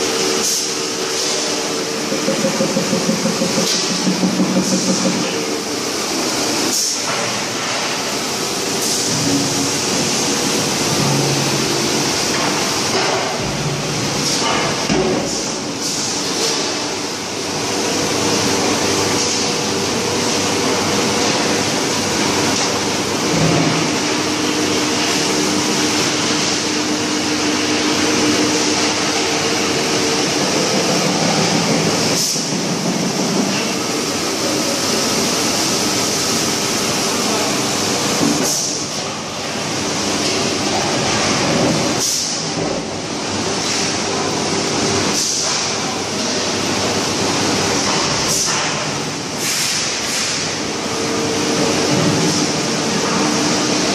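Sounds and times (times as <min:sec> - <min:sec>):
factory machinery running: 0:00.0 - 0:53.9.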